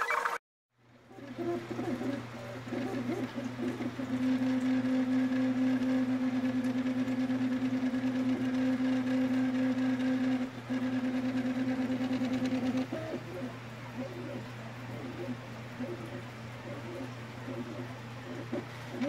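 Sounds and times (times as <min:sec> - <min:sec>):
constant low hum: 0:00.8 - 0:19.0
stepper motors whining: 0:01.1 - 0:19.0.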